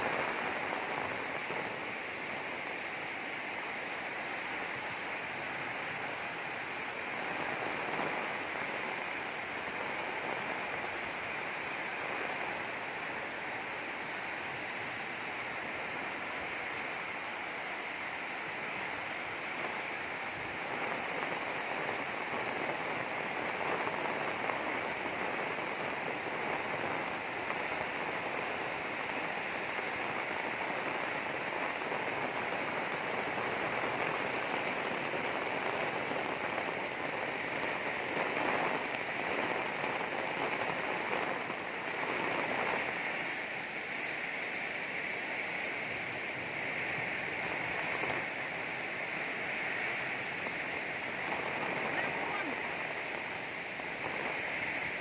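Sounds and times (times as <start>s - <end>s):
heavy rain pouring: 0.0s - 55.0s
strong wind: 0.0s - 55.0s.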